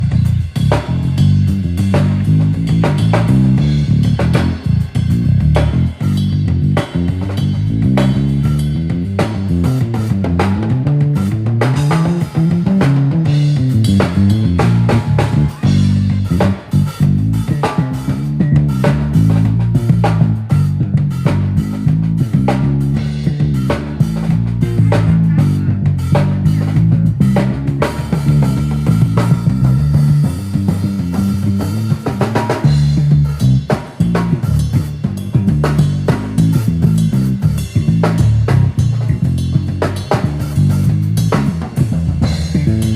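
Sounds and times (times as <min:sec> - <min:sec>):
drum kit groove: 0:00.0 - 0:42.9
electric bass line: 0:00.0 - 0:42.9.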